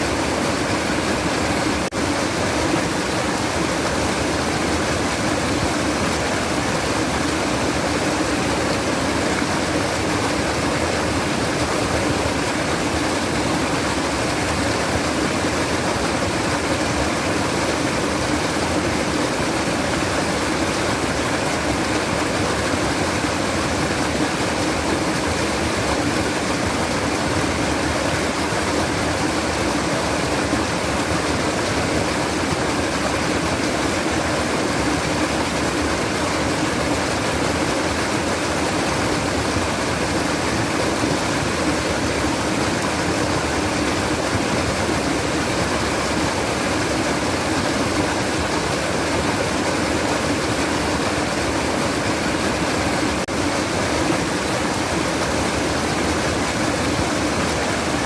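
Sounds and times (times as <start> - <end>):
water babbling and trickling: 0.0 - 58.0.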